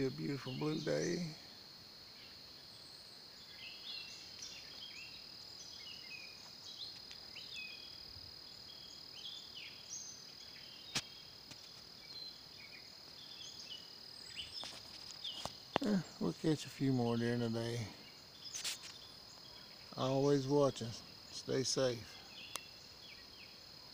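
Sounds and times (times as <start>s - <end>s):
high insect drone: 0.0s - 23.9s
small birds chirping: 0.0s - 23.9s.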